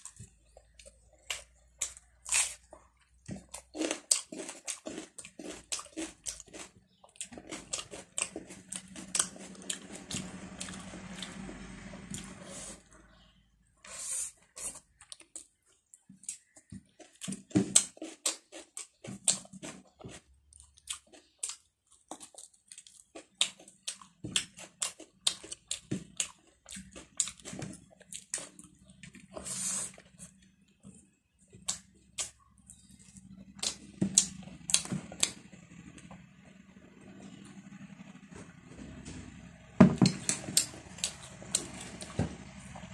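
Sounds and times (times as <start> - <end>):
chewing and mouth noises: 0.0 - 11.4, 14.4 - 35.4, 40.2 - 42.9.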